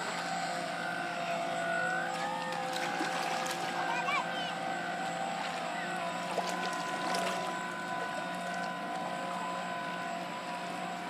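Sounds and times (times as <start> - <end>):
electric motors whining: 0.0 - 11.0
wind and water noise: 0.0 - 11.0.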